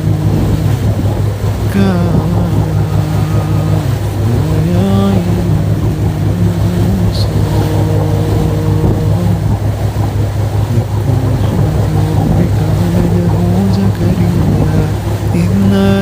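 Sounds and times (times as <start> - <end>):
person reciting with long notes: 0.0 - 1.0, 1.6 - 10.0, 10.6 - 16.0
loud white noise rumble: 0.0 - 16.0.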